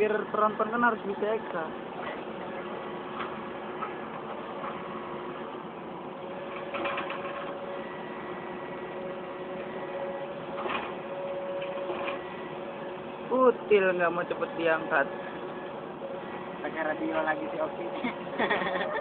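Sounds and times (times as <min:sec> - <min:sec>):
distant diesel machinery droning: 0:00.0 - 0:19.0.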